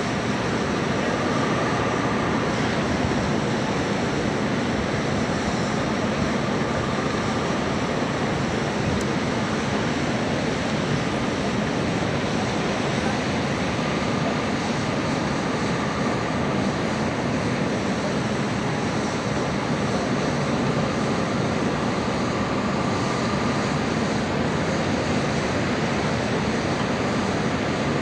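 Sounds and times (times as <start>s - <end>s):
fire engine diesel engine rumble: 0.0s - 27.9s.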